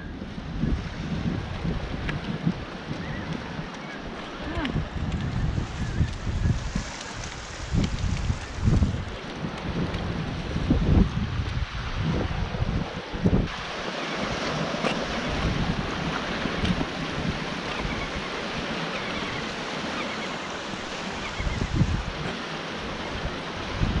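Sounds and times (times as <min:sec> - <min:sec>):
wind buffeting microphone: 0:00.0 - 0:19.9, 0:20.7 - 0:24.0
sea surf washing on shore: 0:00.0 - 0:24.0.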